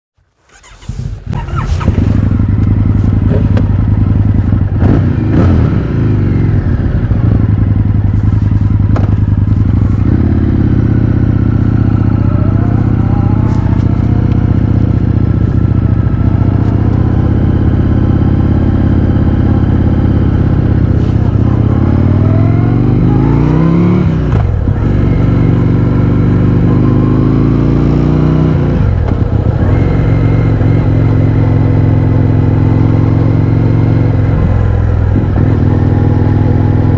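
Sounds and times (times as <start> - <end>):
motorcycle engine revving: 0.5 - 36.9.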